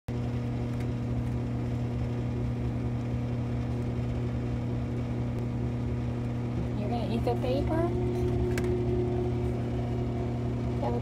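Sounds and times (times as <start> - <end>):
machine hum: 0.1 - 11.0.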